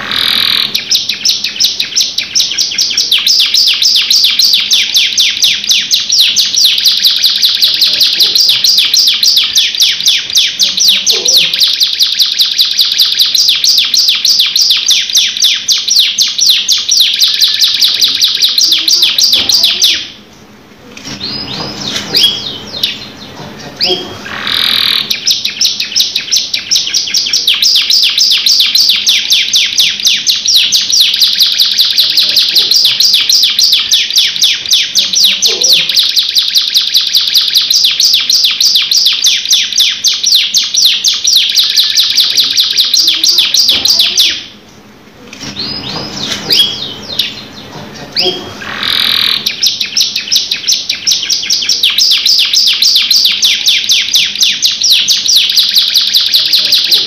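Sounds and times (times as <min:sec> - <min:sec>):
canary singing a rolling trill: 0:00.0 - 0:57.0.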